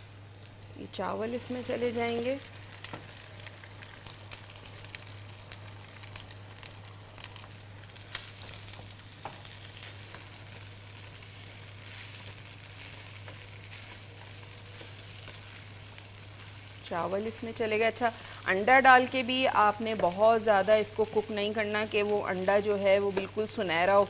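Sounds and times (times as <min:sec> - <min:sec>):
rice and egg sizzling in wok: 0:00.0 - 0:24.0.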